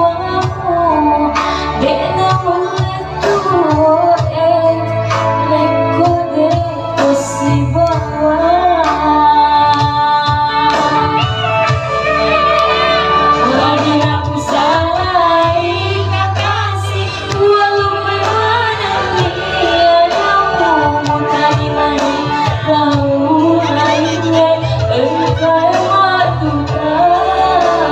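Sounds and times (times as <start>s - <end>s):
amplified band backing: 0.0s - 27.9s
woman singing a pop song: 0.0s - 27.9s.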